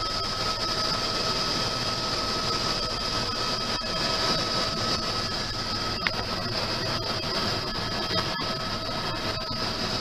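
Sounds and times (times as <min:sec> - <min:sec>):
helicopter engine and rotor drone: 0:00.0 - 0:10.0
high whine: 0:00.0 - 0:10.0.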